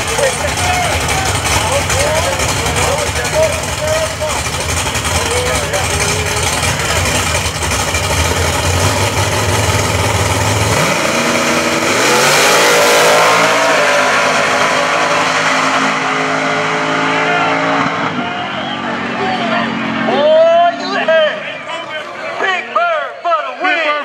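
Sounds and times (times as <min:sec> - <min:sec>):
drag racing cars revving: 0:00.0 - 0:22.8.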